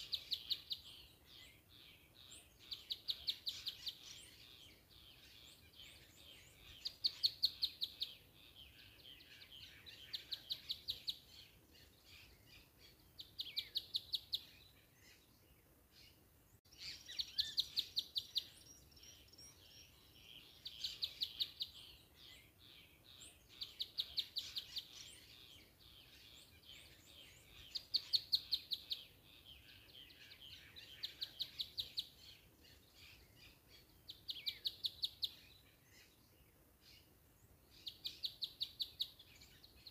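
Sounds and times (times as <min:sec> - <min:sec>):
faint bird chirps: 0:00.0 - 0:39.9.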